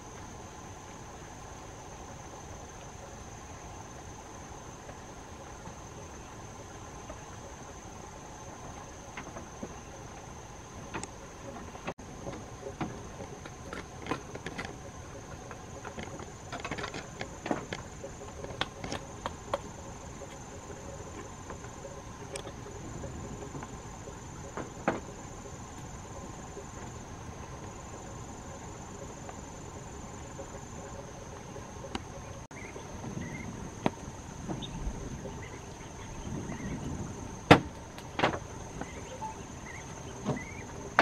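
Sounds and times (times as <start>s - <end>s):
insects chirring: 0.0s - 41.0s.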